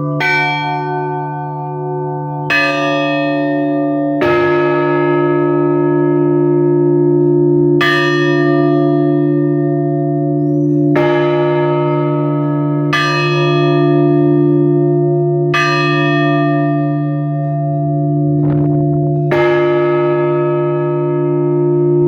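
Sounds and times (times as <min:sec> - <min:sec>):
church bell strikes: 0:00.0 - 0:22.0
low hum of large bell: 0:00.0 - 0:22.0.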